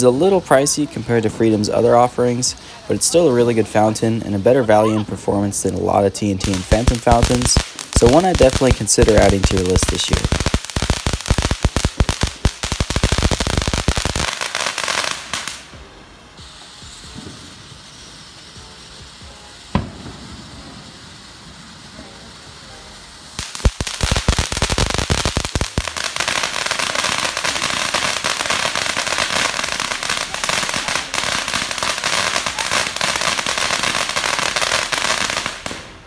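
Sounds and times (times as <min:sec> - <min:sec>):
dense firework crackling: 0:00.0 - 0:36.0
fountain firework hissing: 0:00.0 - 0:36.0.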